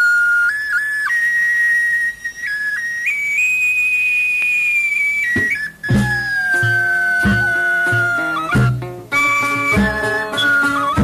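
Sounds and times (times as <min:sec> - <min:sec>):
bamboo flute melody: 0:00.0 - 0:11.0.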